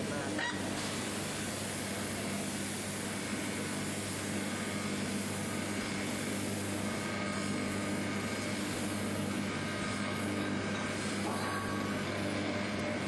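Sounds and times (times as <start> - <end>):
cooling tray hum: 0.0 - 13.0.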